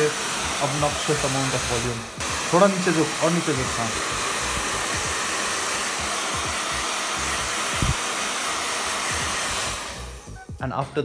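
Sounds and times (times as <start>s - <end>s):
hair dryer blowing: 0.0s - 10.6s.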